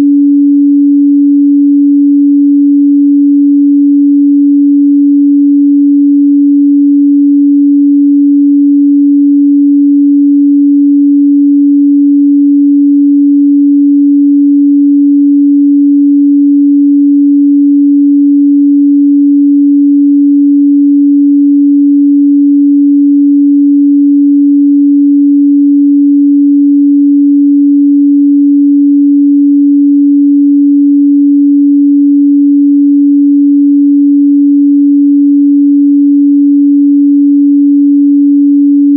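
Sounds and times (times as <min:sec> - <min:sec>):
sine wave test tone: 0:00.0 - 0:38.9.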